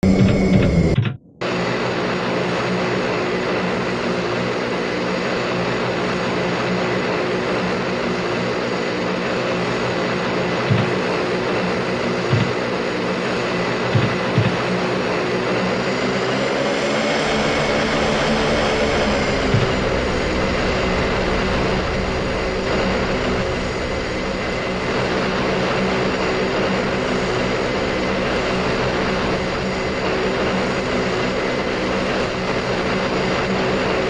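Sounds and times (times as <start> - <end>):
aircraft engine droning: 0.0 - 34.0.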